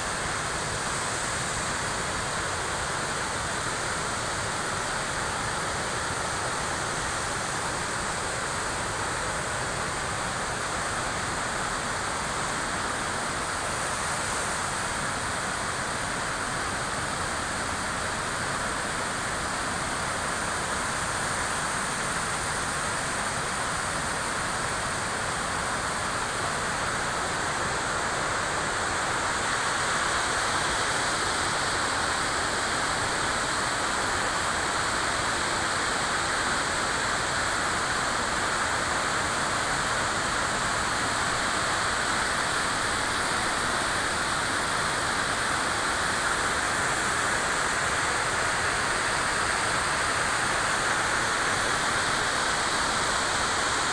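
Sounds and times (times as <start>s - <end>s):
river water rushing: 0.1s - 53.9s.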